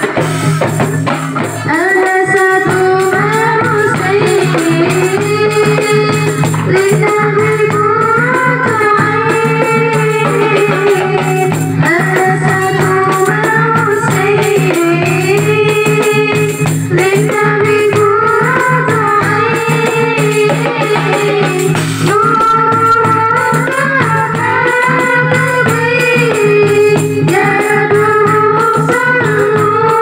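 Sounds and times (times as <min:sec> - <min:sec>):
hand drums: 0:00.0 - 0:30.0
jingling rattling percussion: 0:00.0 - 0:30.0.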